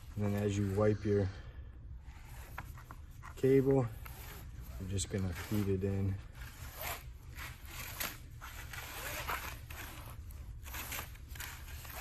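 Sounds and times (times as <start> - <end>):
cable rubbing in hose: 2.0 - 12.0.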